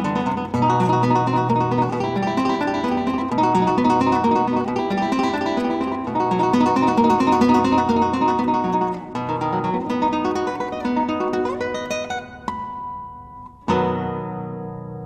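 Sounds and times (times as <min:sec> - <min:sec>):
plucked acoustic guitar music: 0:00.0 - 0:15.0.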